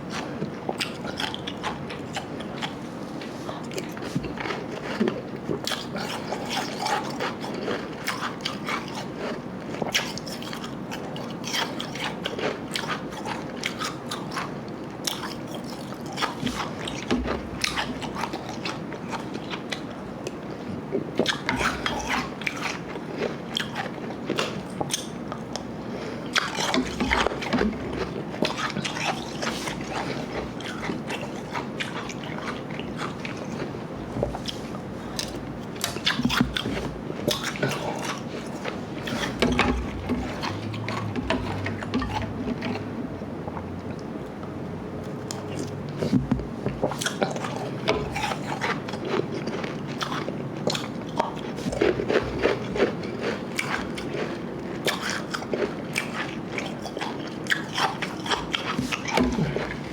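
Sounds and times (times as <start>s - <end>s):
ice chewing crunches: 0.0s - 42.9s, 46.8s - 59.9s.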